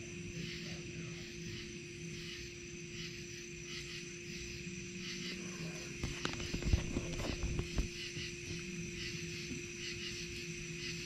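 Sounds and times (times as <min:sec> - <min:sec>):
crickets chirping: 0:00.0 - 0:11.0
faint low hum: 0:00.0 - 0:11.0.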